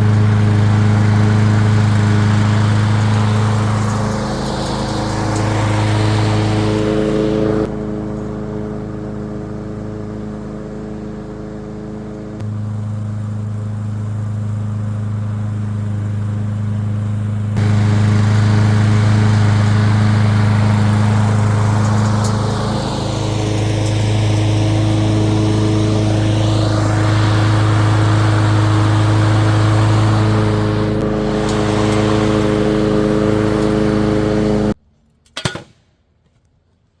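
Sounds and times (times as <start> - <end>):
lawn mower running: 0.0 - 34.8.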